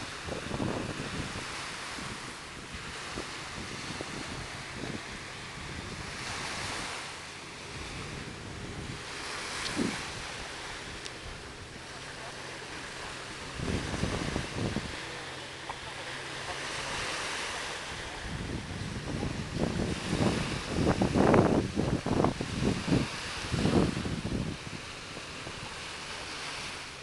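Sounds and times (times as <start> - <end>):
waves washing onto beach: 0.0 - 27.0
wind buffeting microphone: 0.0 - 27.0.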